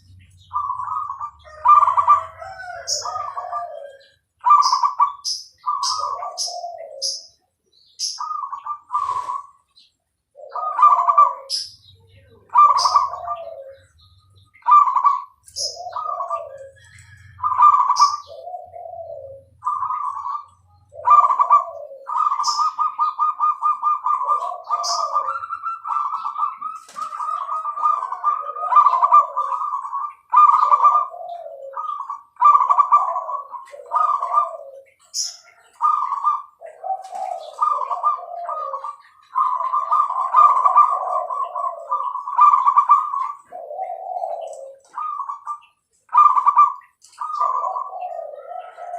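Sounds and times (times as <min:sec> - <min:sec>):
high bird chirps: 0:00.0 - 0:48.8
doves cooing: 0:00.0 - 0:48.9.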